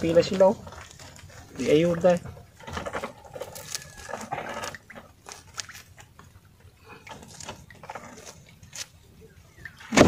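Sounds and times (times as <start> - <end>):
fishing net rustling and tapping: 0.2 - 9.0.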